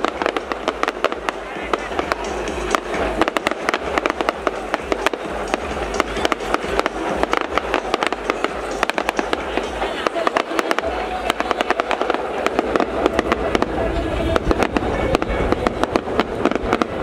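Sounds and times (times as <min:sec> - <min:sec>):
fireworks crackling pops: 0:00.0 - 0:17.0.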